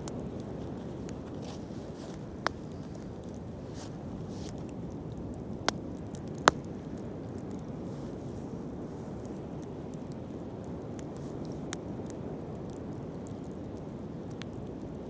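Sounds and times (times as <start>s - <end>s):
bonfire flame rustle: 0.0s - 15.0s
burning wood popping: 0.0s - 15.0s.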